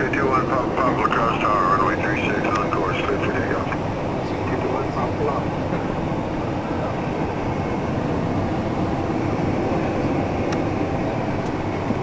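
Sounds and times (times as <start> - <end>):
aircraft cockpit rumble: 0.0 - 12.0.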